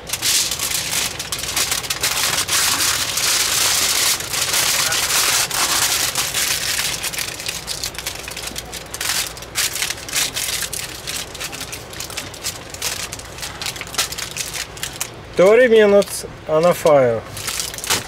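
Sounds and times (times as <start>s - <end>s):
aluminum foil crinkling: 0.0s - 15.2s, 17.3s - 18.0s.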